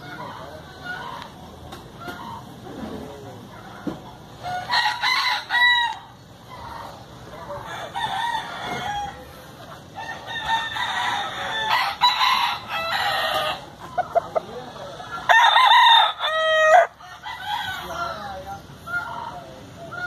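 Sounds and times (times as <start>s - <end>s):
rooster clucks: 0.0s - 20.0s
roosters crowing: 0.0s - 20.0s.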